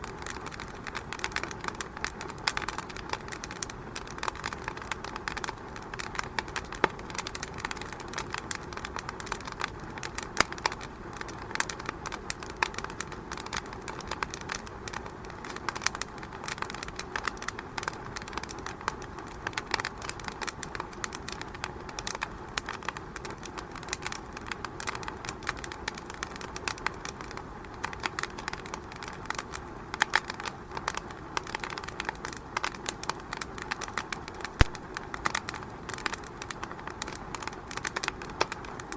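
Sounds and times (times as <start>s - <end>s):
fire crackling in a fireplace: 0.0s - 38.9s.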